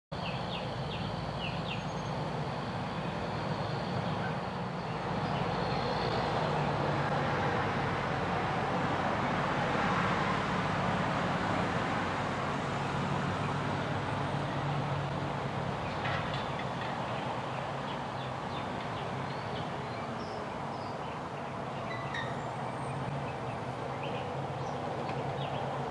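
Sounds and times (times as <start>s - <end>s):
truck engines and tyres: 0.2s - 25.9s.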